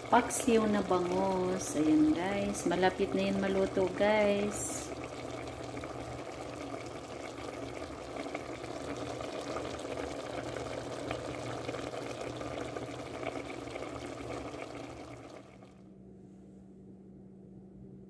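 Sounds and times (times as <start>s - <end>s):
broth bubbling in a covered pot: 0.0s - 15.8s.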